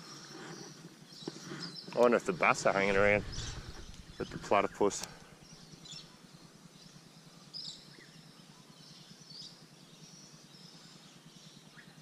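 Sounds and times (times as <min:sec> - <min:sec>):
faint low hum: 0:00.1 - 0:11.8.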